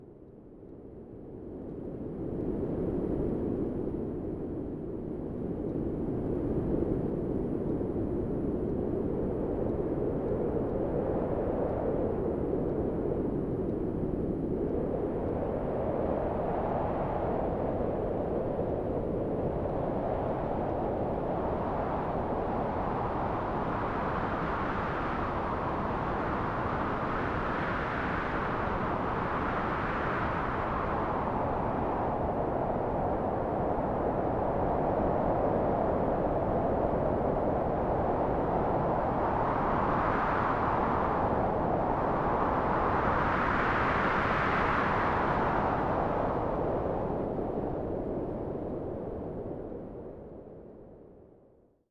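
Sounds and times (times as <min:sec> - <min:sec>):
low steady wind blowing: 0:00.0 - 0:51.9.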